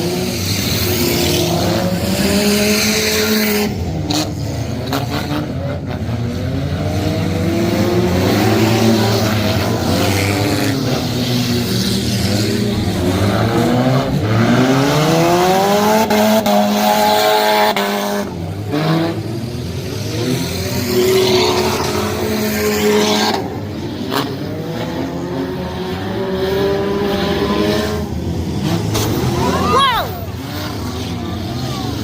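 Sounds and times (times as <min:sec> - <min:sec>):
race car engines accelerating: 0:00.0 - 0:32.0.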